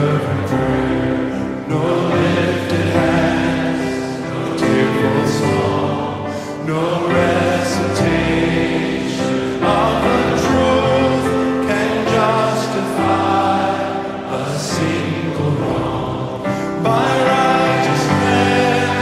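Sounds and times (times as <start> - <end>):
congregation singing a hymn: 0.0 - 19.0
musical accompaniment: 0.0 - 19.0.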